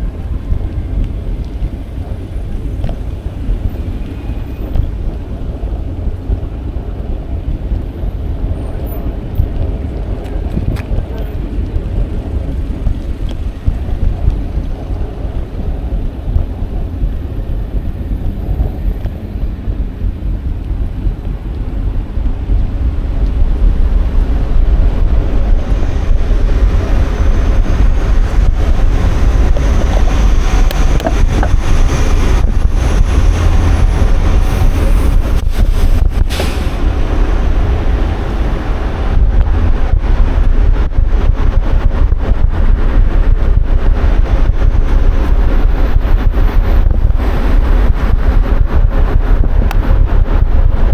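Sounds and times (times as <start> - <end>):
road noise: 0.0 - 50.9
wind buffeting microphone: 0.0 - 50.9.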